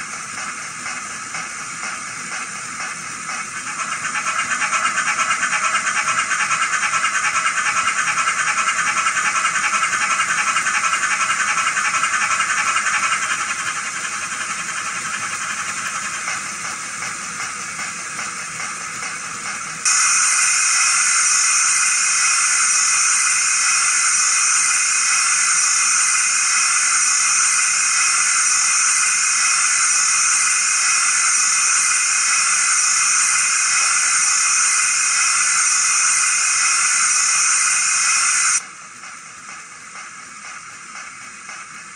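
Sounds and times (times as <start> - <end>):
loud steady steam hiss: 0.0 - 41.9
steam locomotive chuffing: 0.0 - 41.9.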